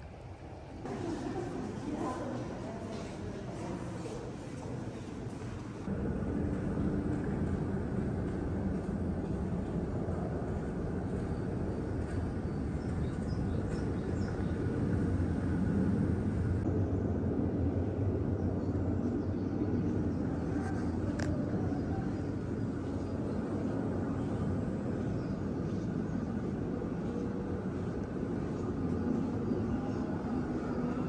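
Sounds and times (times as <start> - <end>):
low rumbling noise: 0.0 - 31.0.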